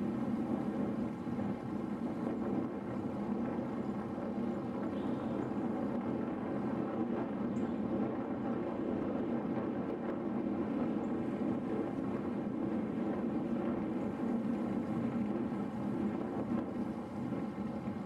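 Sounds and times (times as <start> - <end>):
road noise from bike: 0.0 - 18.0
wind on microphone: 0.0 - 18.0.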